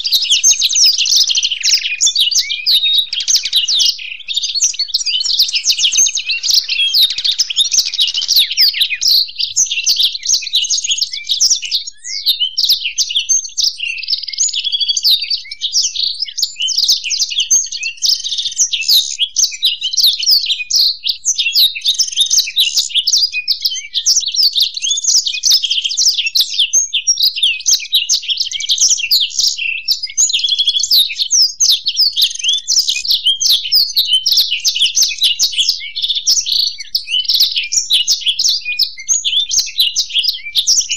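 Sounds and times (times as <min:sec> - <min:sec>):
songbirds twittering: 0:00.0 - 0:40.9.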